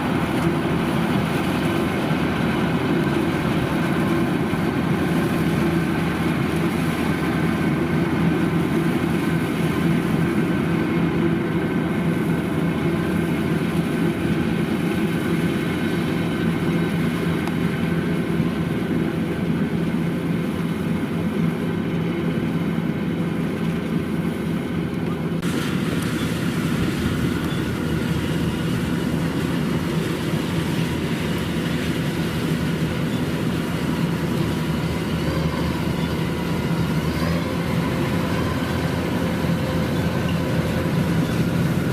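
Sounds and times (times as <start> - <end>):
combine harvester diesel engine: 0.0 - 41.9.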